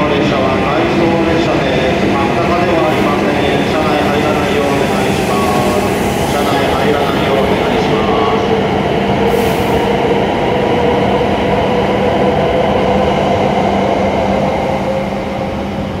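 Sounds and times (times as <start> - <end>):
train passing close by: 0.0 - 16.0.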